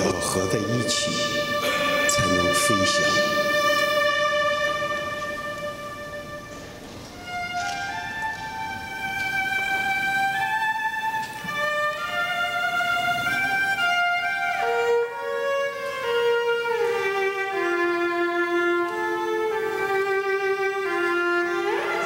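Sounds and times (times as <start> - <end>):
cello playing slow melody: 0.0 - 22.0.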